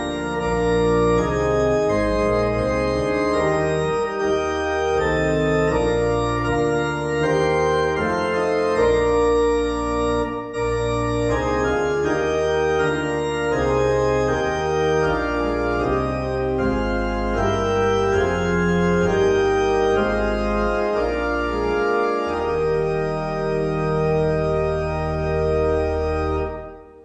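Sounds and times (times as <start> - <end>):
church organ playing a hymn: 0.0 - 27.0.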